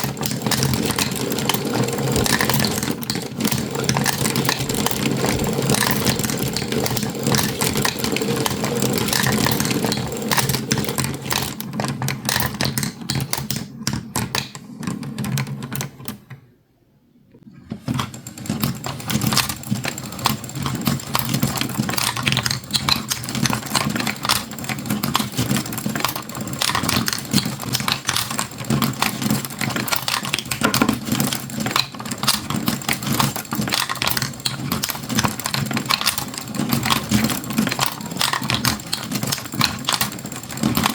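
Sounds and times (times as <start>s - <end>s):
marbles clattering on a marble run: 0.0s - 14.5s, 18.6s - 40.9s.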